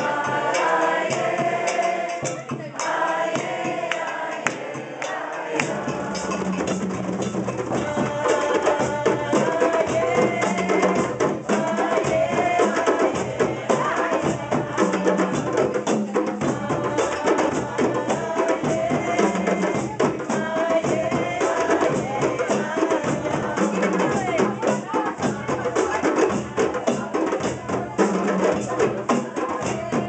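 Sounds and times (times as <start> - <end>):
woman singing through microphone: 0.0 - 6.8, 7.7 - 30.0
djembe hand drums: 0.0 - 30.0.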